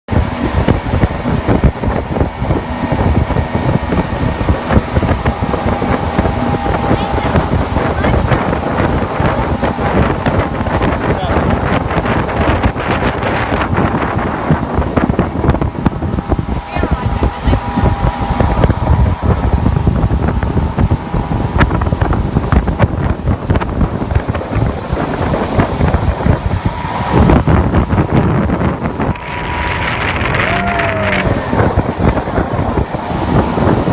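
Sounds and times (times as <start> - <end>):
boat engine drone: 0.1 - 33.9
wind buffeting microphone: 0.1 - 33.9.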